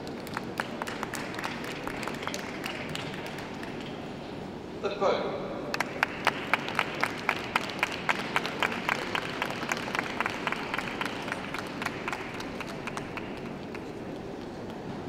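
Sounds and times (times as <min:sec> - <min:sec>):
spectators clapping: 0:00.0 - 0:04.0, 0:05.7 - 0:14.8.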